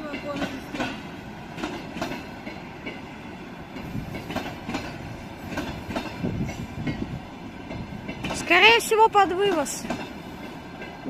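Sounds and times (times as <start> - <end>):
train rumble: 0.0 - 11.0
train wheels clacking over rail joints: 0.0 - 11.0.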